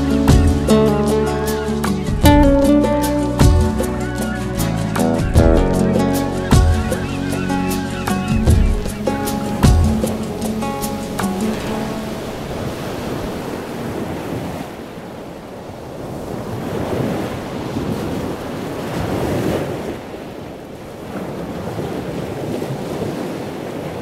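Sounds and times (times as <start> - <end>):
sea waves washing in: 0.0 - 24.0
wind blowing: 0.0 - 24.0.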